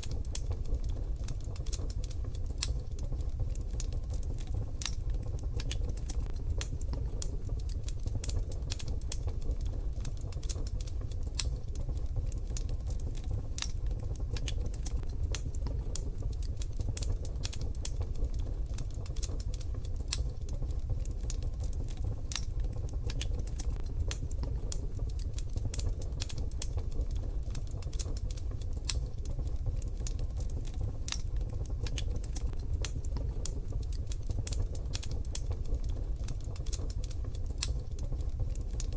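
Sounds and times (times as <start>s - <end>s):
low rumble of stove: 0.0s - 38.9s
wood fire crackling: 0.0s - 38.9s.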